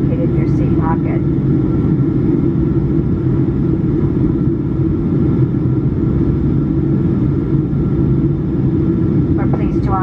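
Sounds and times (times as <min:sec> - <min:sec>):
airplane cabin engine drone: 0:00.0 - 0:10.0.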